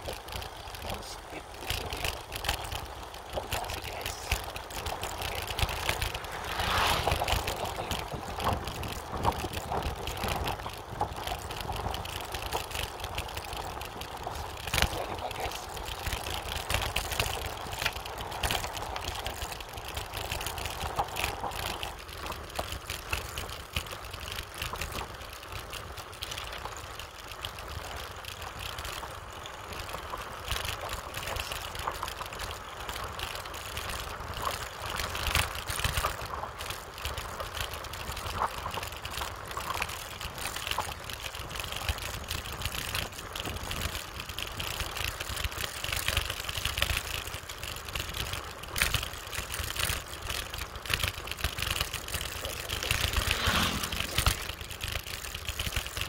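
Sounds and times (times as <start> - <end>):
bicycle rattles and clicks: 0.0 - 56.0.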